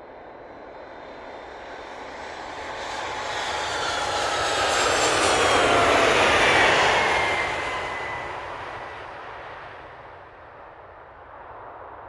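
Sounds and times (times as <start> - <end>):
jet airliner engines rushing: 0.2 - 12.0.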